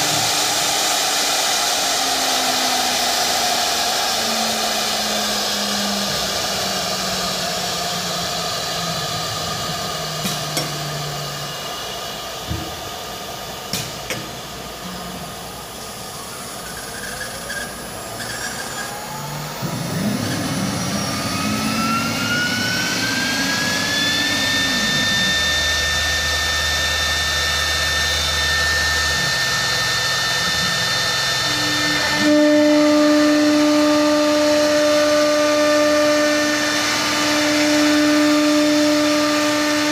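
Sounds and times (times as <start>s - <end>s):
wood router spindles rushing: 0.0s - 11.6s, 15.6s - 39.9s
loud steady hum: 0.0s - 39.9s
low motor hum: 0.0s - 39.9s
rising whine: 0.0s - 39.9s.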